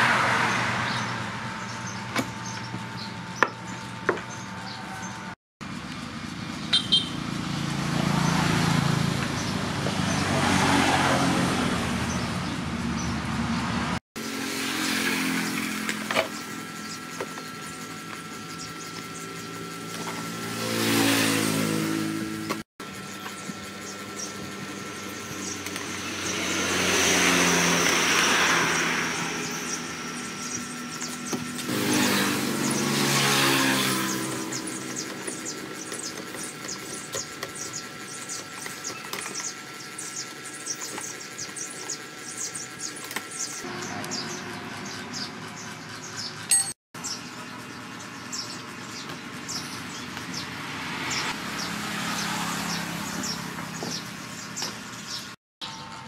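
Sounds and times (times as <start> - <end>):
vehicles passing by: 0.0 - 56.0.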